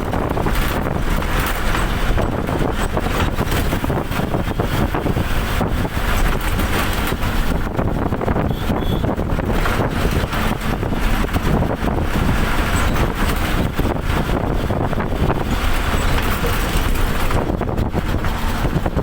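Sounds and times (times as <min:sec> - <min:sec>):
moving vehicle rushing noise: 0:00.0 - 0:19.0
wind buffeting microphone: 0:00.0 - 0:19.0.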